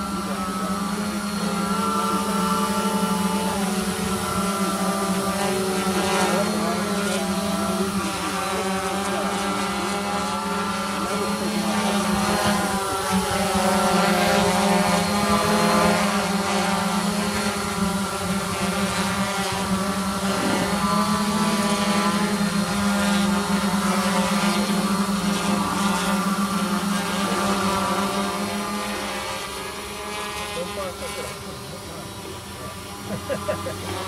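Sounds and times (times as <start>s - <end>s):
drone propellers buzzing: 0.0s - 34.0s.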